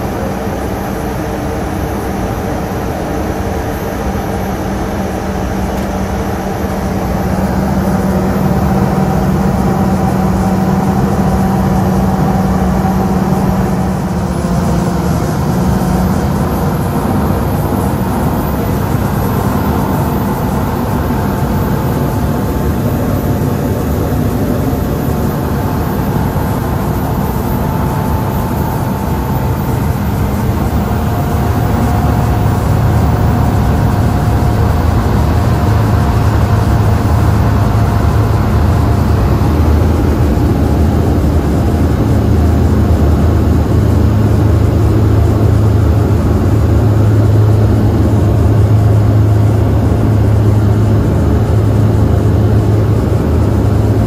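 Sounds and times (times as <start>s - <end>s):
turboprop engine drone: 0.0s - 54.0s.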